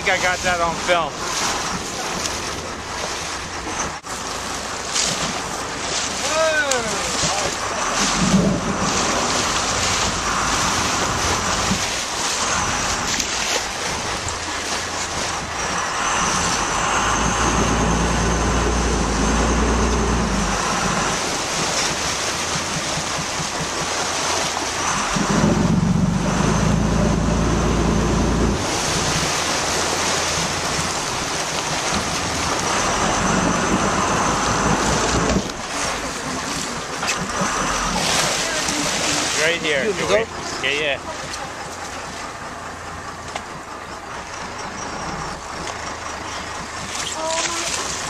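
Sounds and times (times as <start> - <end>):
wind buffeting microphone: 0.0 - 45.7
boat engine humming: 0.0 - 48.0
water splashing along boat hull: 0.0 - 48.0.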